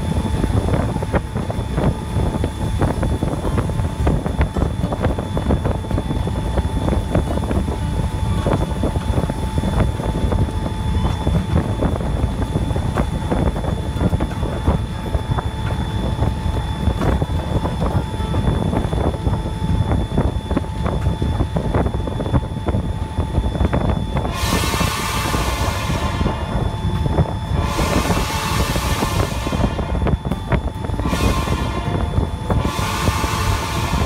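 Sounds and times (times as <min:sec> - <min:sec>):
faint steady whine: 0:00.0 - 0:34.0
train rumble: 0:00.0 - 0:34.0
wind buffeting microphone: 0:00.0 - 0:34.0.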